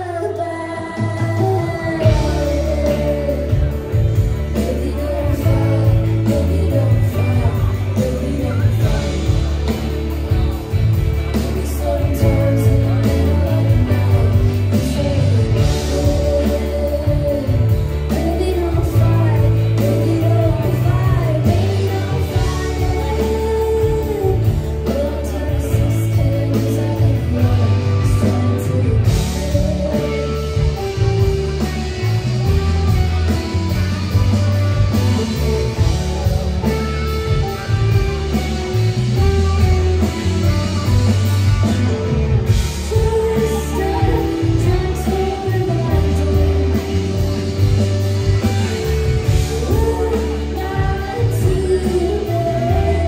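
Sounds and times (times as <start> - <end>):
live rock band playing: 0.0 - 53.0
person singing: 0.0 - 53.0
heavy bass line: 0.9 - 53.0.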